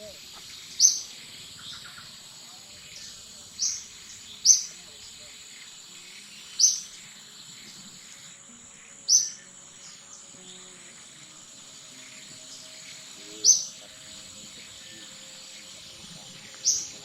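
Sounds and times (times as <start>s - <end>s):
high bird chirps: 0.0s - 17.0s
high-pitched insect drone: 0.0s - 17.0s.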